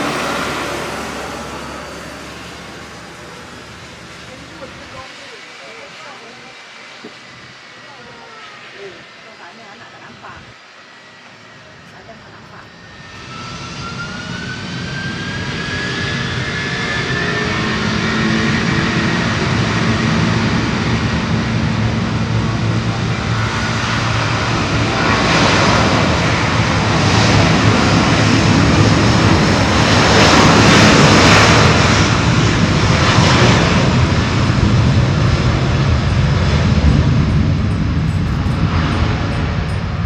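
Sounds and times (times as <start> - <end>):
jet engines at takeoff power: 0.0 - 40.0.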